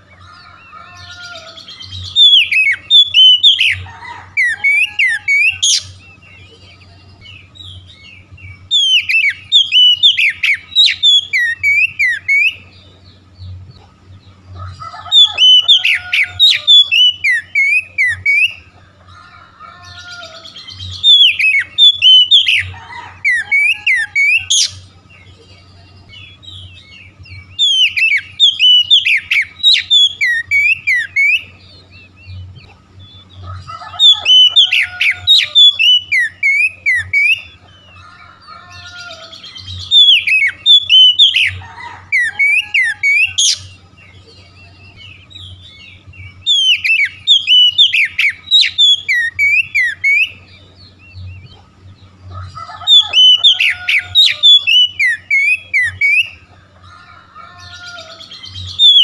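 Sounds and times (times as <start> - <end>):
bird singing whistled notes: 0.0 - 13.6, 15.1 - 18.7, 19.9 - 38.0, 38.8 - 56.5, 57.7 - 59.0.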